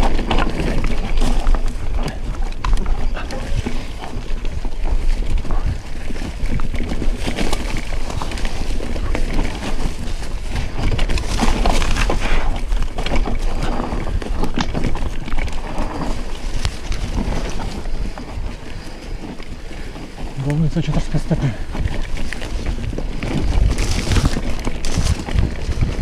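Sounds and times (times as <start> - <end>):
bike rattling and knocking: 0.0 - 26.0
bike tyres crunching on trail: 0.0 - 26.0
wind buffeting microphone: 0.0 - 26.0.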